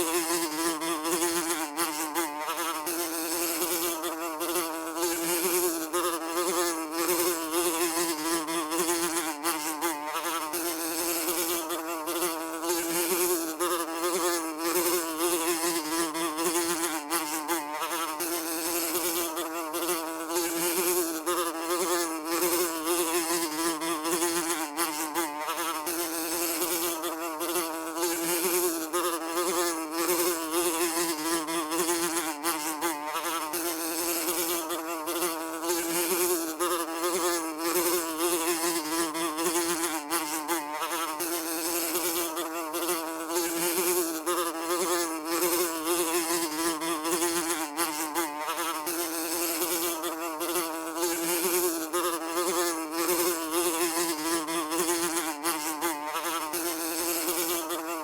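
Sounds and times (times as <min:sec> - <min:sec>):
fly buzzing: 0:00.0 - 0:58.0.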